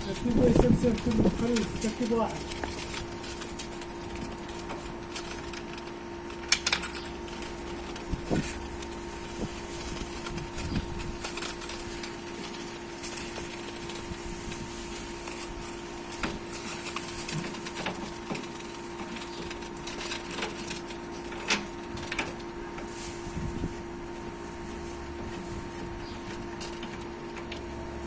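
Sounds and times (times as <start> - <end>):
hand tools clicking and scraping: 0.0 - 23.0
steady hum: 0.0 - 28.0.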